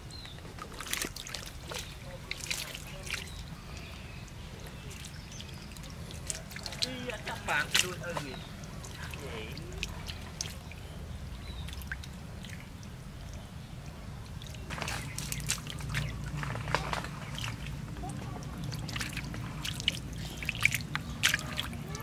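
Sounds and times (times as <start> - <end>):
fish splashing in water: 0.0 - 22.0
low steady hum: 0.0 - 22.0.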